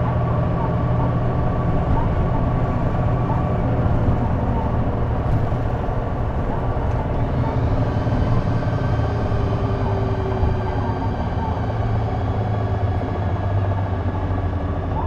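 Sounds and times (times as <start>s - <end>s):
bus diesel engine droning: 0.0s - 15.0s
mid-pitched engine tone: 0.0s - 15.0s.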